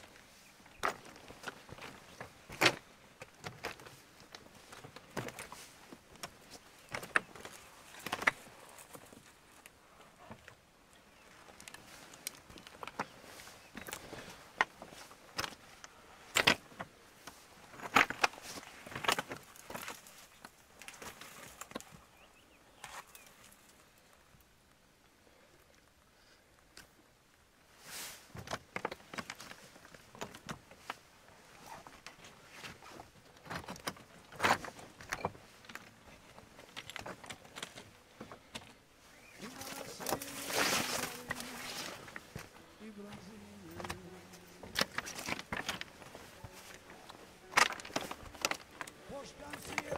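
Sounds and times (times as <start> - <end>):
footsteps on rock and stones: 0.0 - 9.6, 11.2 - 21.9, 28.3 - 49.9.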